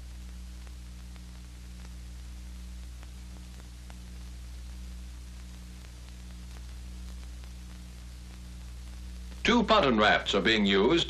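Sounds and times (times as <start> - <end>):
film hiss: 0.0 - 11.0
low hum: 0.0 - 11.0.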